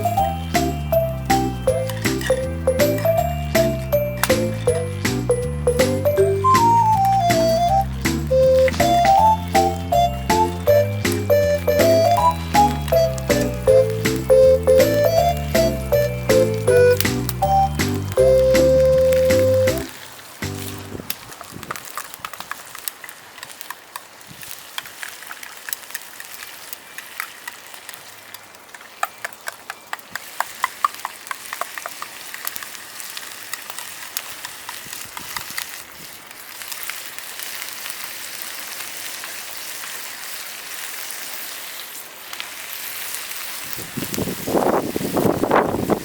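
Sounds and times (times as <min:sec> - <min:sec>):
food sizzling: 0:00.0 - 0:46.0
wood fire crackling: 0:00.0 - 0:46.0.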